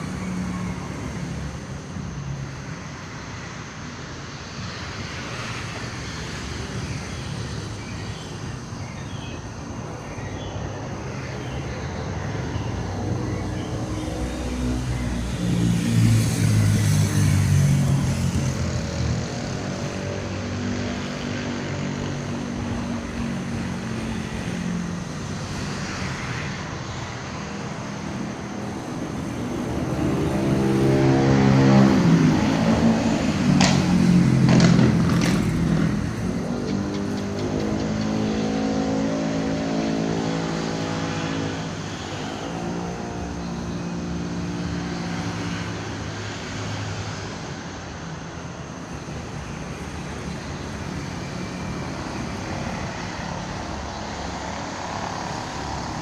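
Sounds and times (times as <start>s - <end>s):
vehicle engines passing by: 0.0s - 56.0s.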